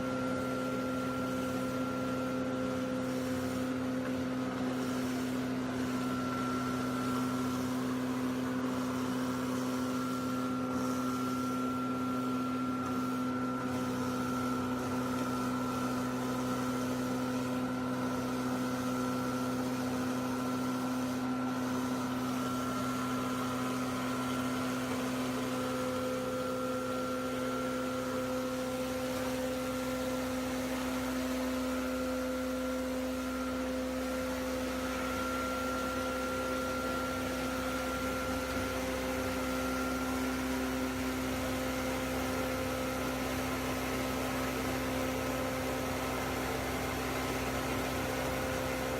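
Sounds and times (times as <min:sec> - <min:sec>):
powder mill humming and whining: 0:00.0 - 0:48.9.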